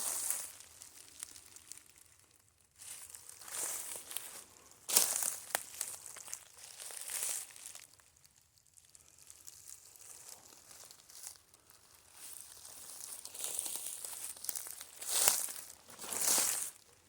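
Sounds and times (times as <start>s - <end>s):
dry leaves crunching underfoot: 0.0s - 16.9s.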